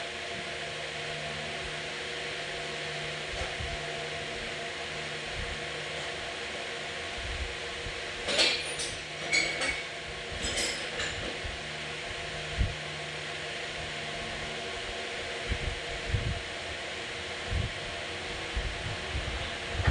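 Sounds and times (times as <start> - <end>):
fan-like hum: 0.0 - 19.9.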